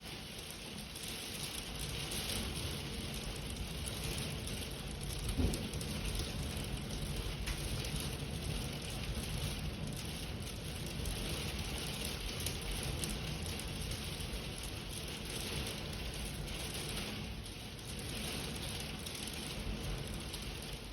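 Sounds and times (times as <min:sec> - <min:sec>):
heavy rain with wind: 0:00.0 - 0:20.9.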